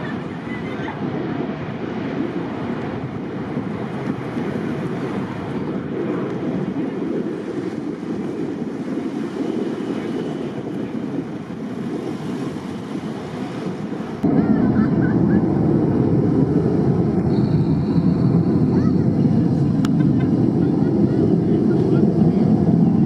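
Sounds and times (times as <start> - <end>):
jet engines roaring: 0.0 - 23.0
wind buffeting microphone: 0.0 - 23.0.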